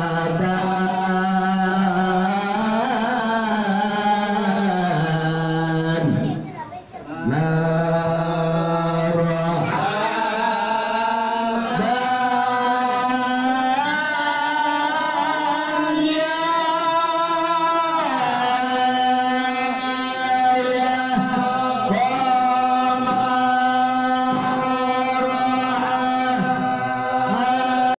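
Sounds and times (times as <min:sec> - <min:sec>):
men chanting devotional praises: 0:00.0 - 0:28.0.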